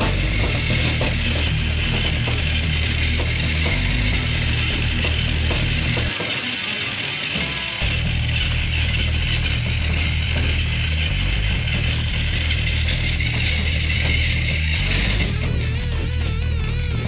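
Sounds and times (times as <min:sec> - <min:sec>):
toy train motors whirring: 0:00.0 - 0:17.0.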